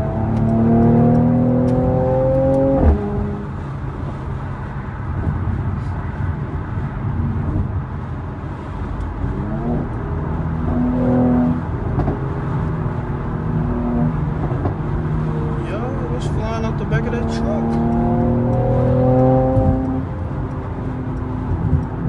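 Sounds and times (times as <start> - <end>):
car engine revving: 0.0 - 22.0
engine and road rumble: 0.0 - 22.0.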